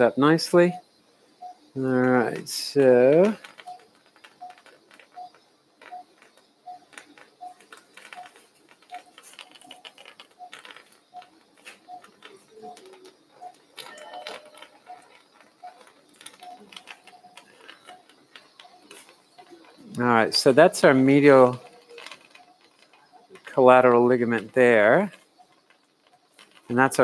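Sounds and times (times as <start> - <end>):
monitor beeping: 0.0 - 27.0
faint irregular clicks and taps: 1.5 - 27.0.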